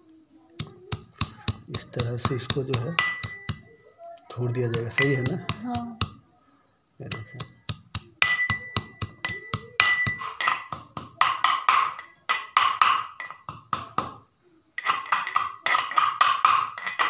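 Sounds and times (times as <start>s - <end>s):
steel pestle pounding in mortar: 0.6s - 3.7s, 4.5s - 6.2s, 7.1s - 14.2s, 14.8s - 17.0s.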